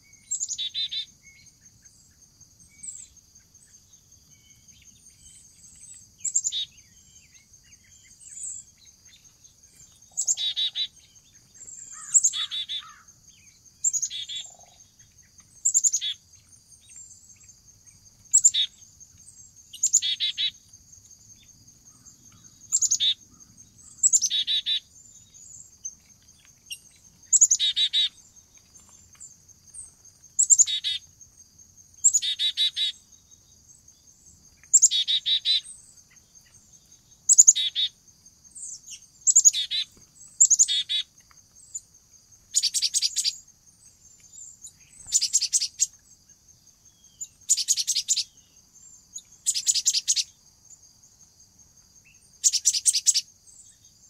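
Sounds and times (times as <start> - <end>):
songbird calling with trill: 0.0 - 31.4, 32.0 - 50.8, 52.0 - 54.0
high-pitched insect trill: 0.0 - 54.0.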